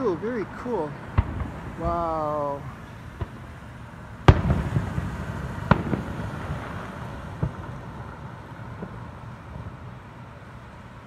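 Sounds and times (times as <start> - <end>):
firework bangs: 0.0 - 11.0
firework crackling: 0.0 - 11.0.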